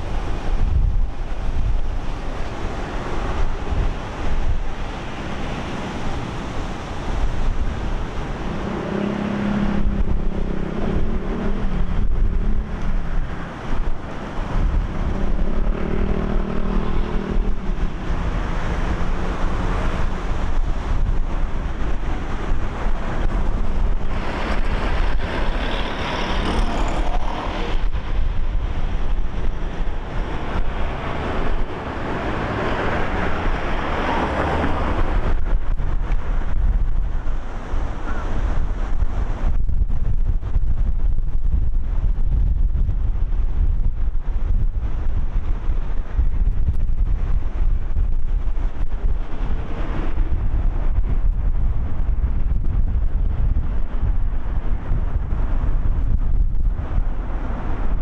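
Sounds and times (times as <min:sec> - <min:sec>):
engine hum: 0:00.0 - 0:58.0
vehicles passing: 0:00.0 - 0:58.0
wind buffeting microphone: 0:00.0 - 0:58.0.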